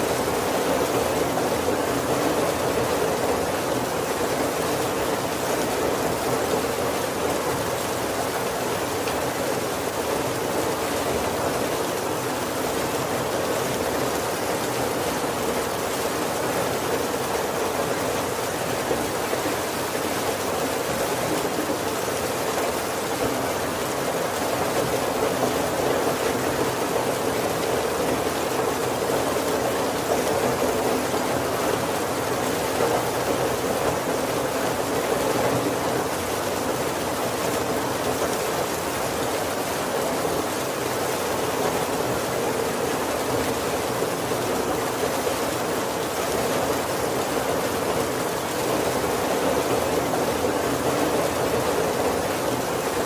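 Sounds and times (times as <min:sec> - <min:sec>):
heavy rain on wooden roof: 0:00.0 - 0:53.0.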